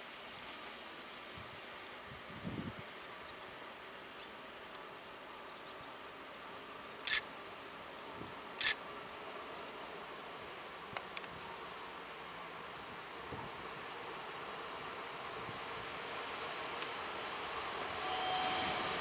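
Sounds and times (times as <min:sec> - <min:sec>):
train faint steady hum: 0:00.0 - 0:19.0.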